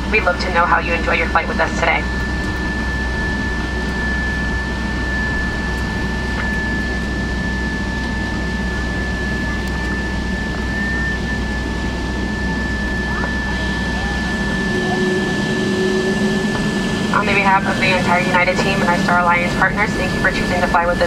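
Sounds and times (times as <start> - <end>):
high-pitched whine: 0.0 - 21.0
jet engines idling: 0.0 - 21.0.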